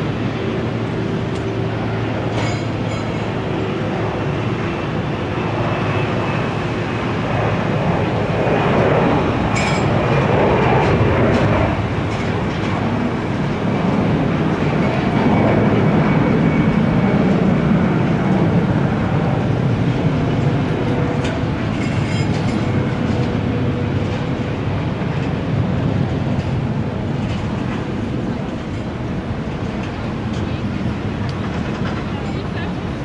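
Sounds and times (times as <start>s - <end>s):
jet aircraft rumble: 0.0s - 33.0s.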